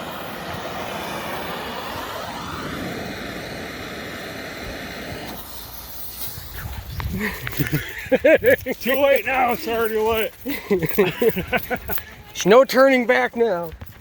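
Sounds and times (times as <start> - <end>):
firework fuse hissing: 0.0 - 13.1.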